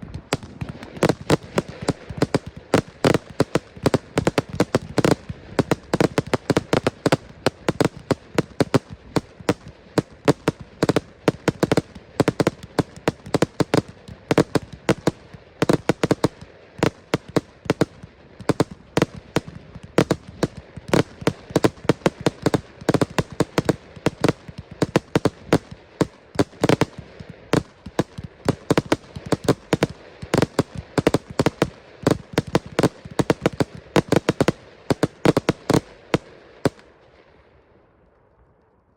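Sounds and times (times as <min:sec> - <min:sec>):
fireworks bangs and cracks: 0:00.0 - 0:37.0.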